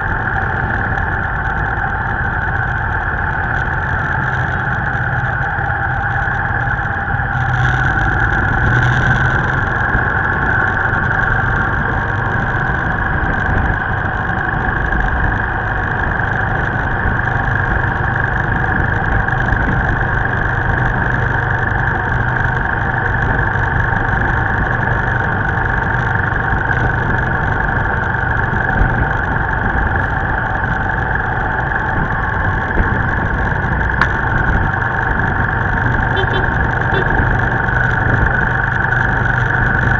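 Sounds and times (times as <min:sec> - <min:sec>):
motorbike engine: 0:00.0 - 0:39.9
passing traffic: 0:00.0 - 0:39.9
road noise: 0:00.0 - 0:39.9.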